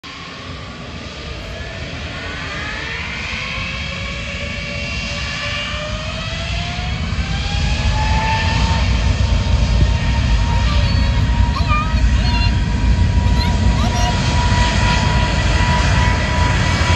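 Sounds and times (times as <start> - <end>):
jet engines whining: 0.1 - 16.9
low rumble: 0.6 - 5.0, 6.9 - 16.9.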